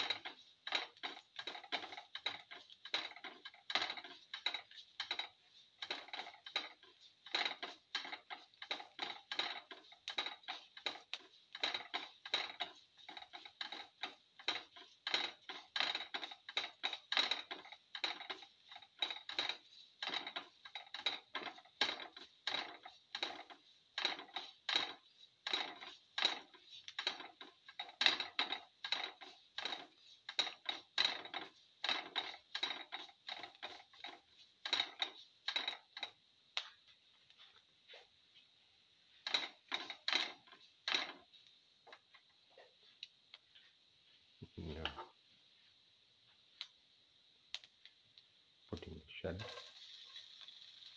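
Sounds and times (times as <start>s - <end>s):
spatula scraping a frying pan: 0.0s - 38.1s, 39.1s - 43.8s, 49.4s - 50.9s.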